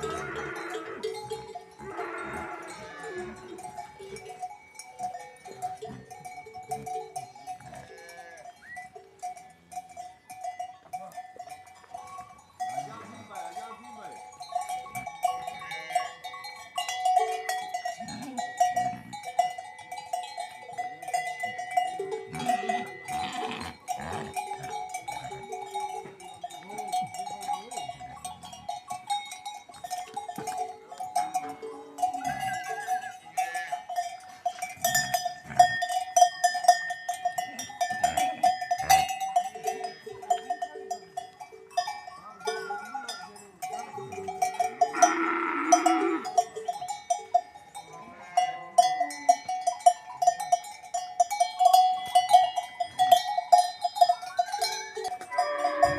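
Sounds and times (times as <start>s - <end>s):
livestock bells clanking: 0.0s - 55.9s.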